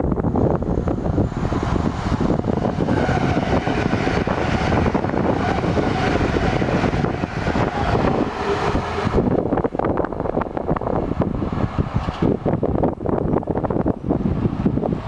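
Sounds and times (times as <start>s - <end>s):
freight train wheels rumbling: 0.0s - 15.0s
wheels clattering: 0.3s - 13.9s.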